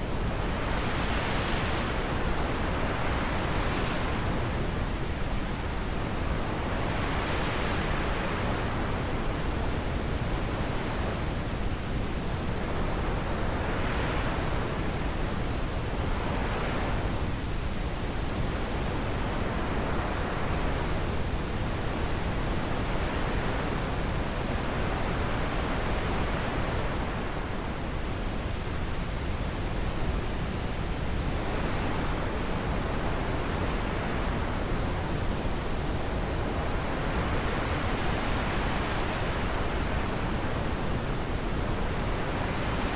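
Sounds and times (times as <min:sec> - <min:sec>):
wind blowing in gusts: 0:00.0 - 0:42.9.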